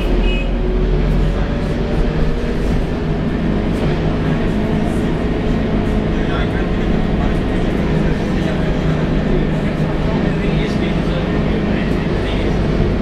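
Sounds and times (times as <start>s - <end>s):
bus diesel engine drone: 0.0s - 13.0s
road noise: 0.0s - 13.0s.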